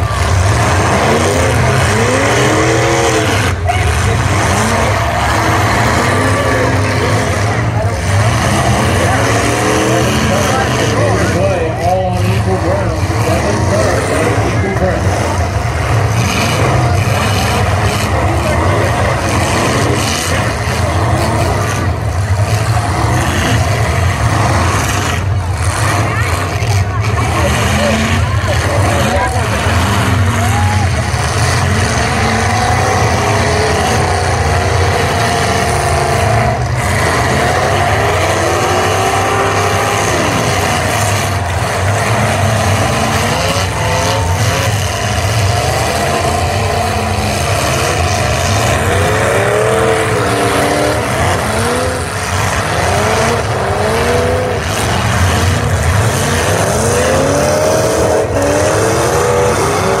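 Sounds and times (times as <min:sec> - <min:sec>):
car engines revving: 0:00.0 - 1:00.0.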